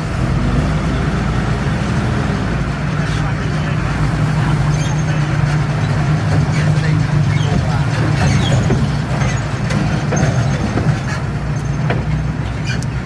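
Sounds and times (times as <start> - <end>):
diesel machinery engine drone: 0.0 - 13.0.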